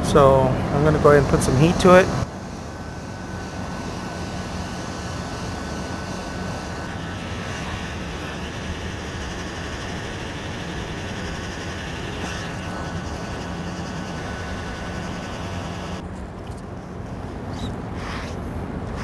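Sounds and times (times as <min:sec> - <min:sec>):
heat gun blower rushing: 0:00.0 - 0:16.0.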